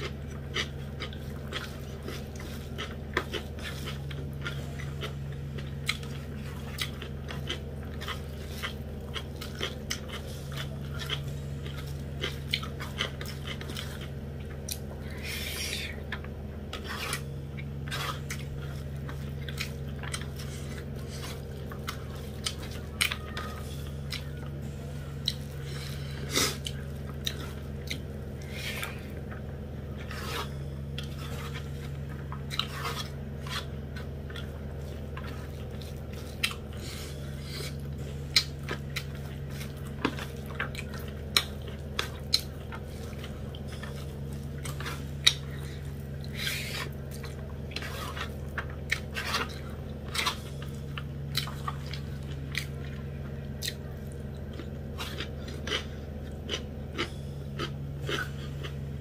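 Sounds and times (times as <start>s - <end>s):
chewing and mouth sounds: 0.0s - 59.0s
low hum: 0.0s - 59.0s.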